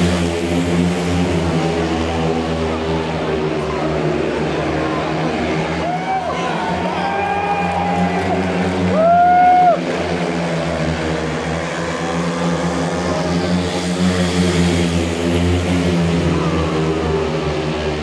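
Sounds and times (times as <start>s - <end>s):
motorcycle engines racing: 0.0s - 18.0s.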